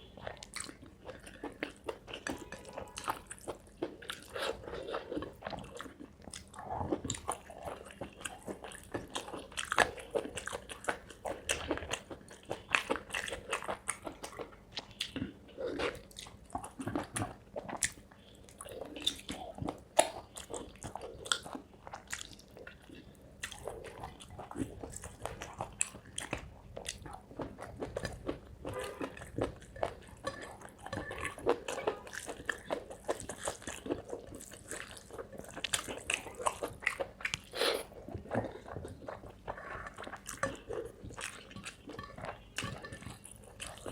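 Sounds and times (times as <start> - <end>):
wet chewing mouth sounds: 0.0 - 43.9.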